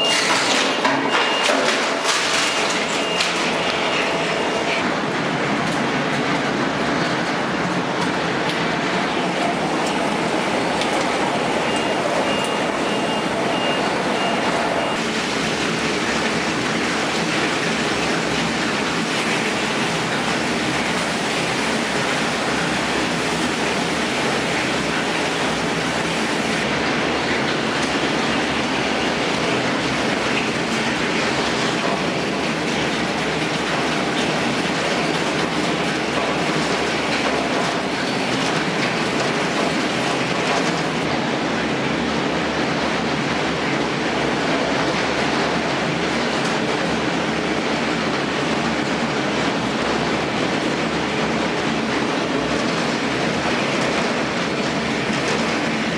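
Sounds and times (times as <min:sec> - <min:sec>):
machinery running: 0:00.0 - 0:55.9
scrap clattering on conveyors: 0:00.0 - 0:55.9.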